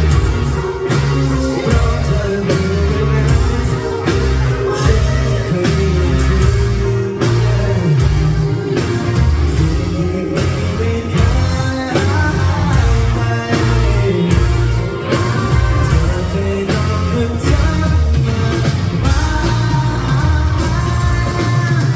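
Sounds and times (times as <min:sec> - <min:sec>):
person singing: 0:00.0 - 0:21.9
rock band playing live: 0:00.0 - 0:21.9.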